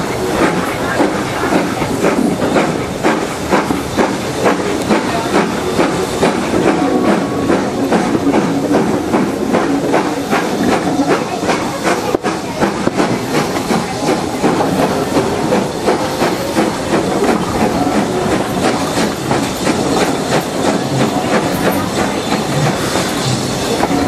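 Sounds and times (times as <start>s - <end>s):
steam hissing: 0.0s - 24.0s
steam train exhaust chuffs: 0.0s - 24.0s
wheels clicking over rails: 0.0s - 24.0s.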